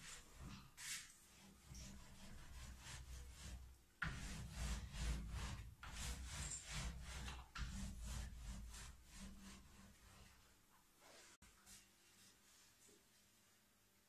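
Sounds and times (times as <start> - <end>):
paint roller swishing: 0.0 - 12.9.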